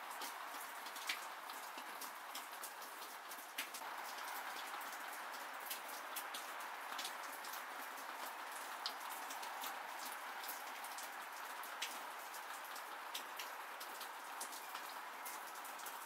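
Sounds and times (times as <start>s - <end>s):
steady rain falling: 0.0s - 16.0s
raindrops tapping sharply: 0.1s - 16.0s.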